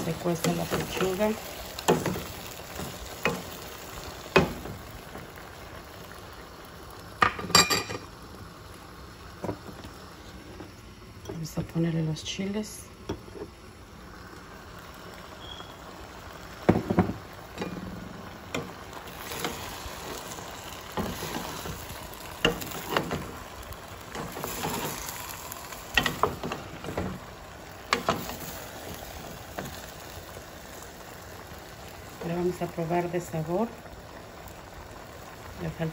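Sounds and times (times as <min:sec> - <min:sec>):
food sizzling in a pan: 0:00.0 - 0:35.9.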